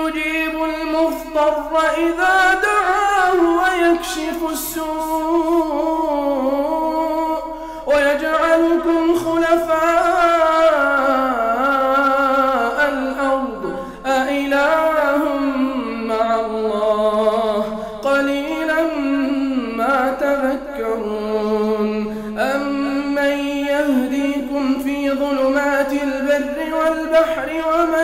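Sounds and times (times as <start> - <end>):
man reciting melodically: 0.0 - 28.0.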